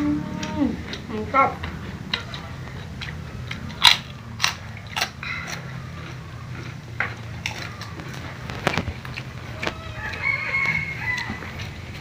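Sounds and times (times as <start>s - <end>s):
steady low hum: 0.0s - 12.0s
eating crunches and clicks: 0.4s - 12.0s.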